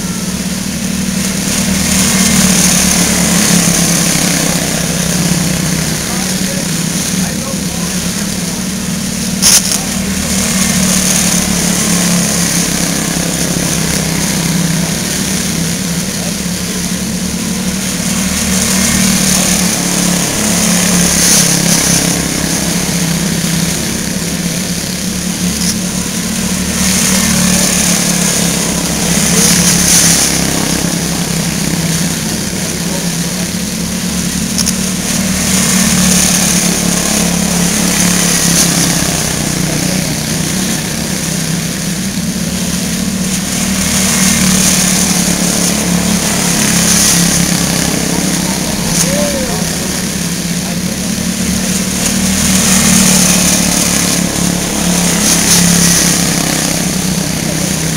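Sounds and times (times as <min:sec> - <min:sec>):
small race car engines buzzing: 0:00.0 - 0:57.9.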